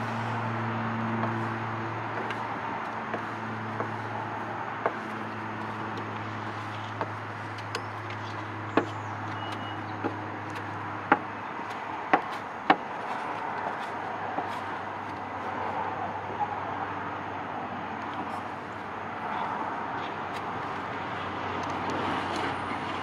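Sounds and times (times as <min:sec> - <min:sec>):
steady low hum: 0:00.0 - 0:21.5.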